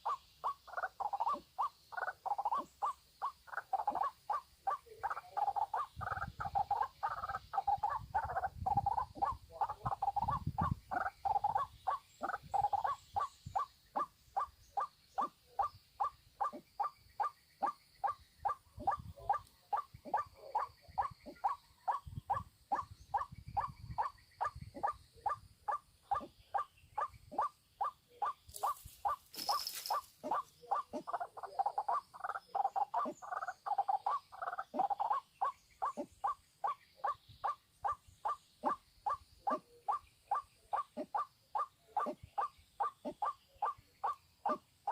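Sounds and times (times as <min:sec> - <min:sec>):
bird repeated croaking call: 0:00.0 - 0:44.9.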